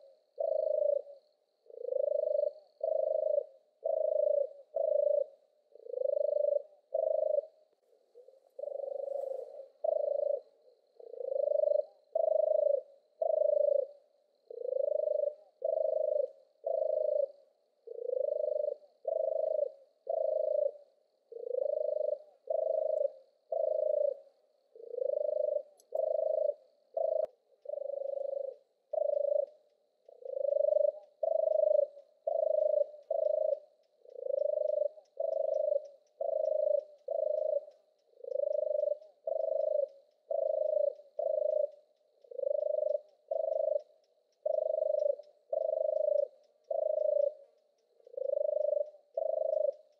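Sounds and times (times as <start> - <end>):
dove purring song: 0.0 - 49.9.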